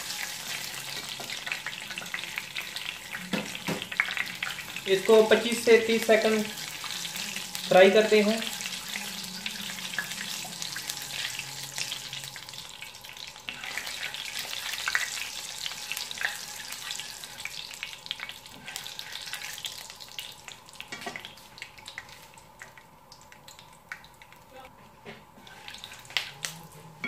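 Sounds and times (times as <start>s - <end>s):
seeds sizzling in hot oil: 0.0s - 24.6s, 25.4s - 26.5s.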